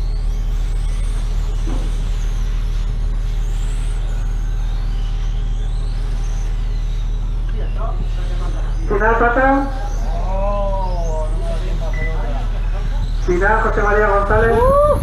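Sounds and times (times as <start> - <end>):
distant racing motorcycles: 0.0 - 15.0
loud steady low hum: 0.0 - 15.0.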